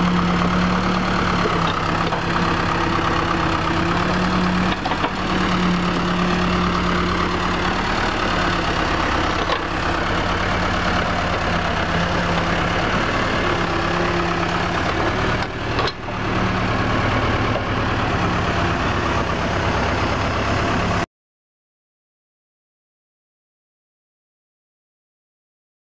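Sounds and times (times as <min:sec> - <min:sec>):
diesel engine running: 0:00.0 - 0:21.1.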